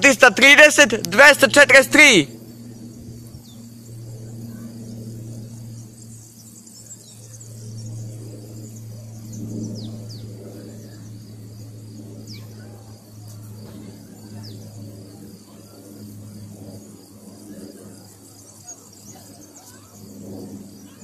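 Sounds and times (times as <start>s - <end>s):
insects chirping: 0.0s - 21.0s
steady low hum: 0.0s - 21.0s.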